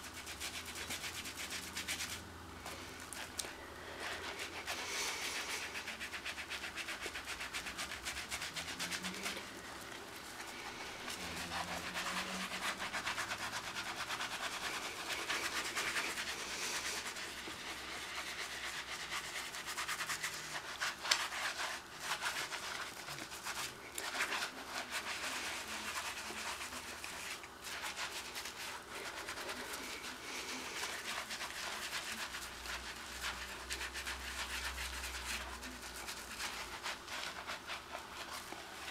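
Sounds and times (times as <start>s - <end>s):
hands being scrubbed: 0.0s - 38.9s.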